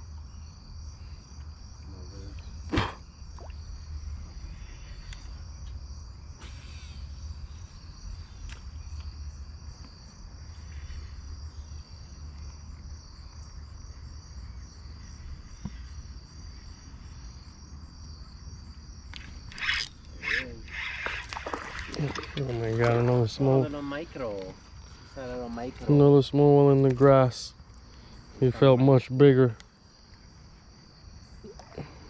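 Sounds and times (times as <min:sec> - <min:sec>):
insects chirping: 0:00.0 - 0:32.0.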